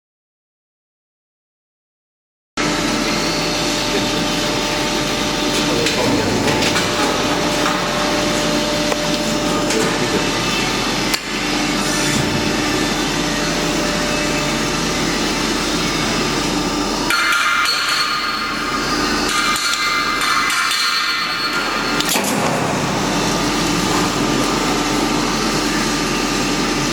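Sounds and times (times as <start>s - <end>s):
low electrical hum: 2.6s - 26.9s
spot welding machine clatter: 2.6s - 26.9s.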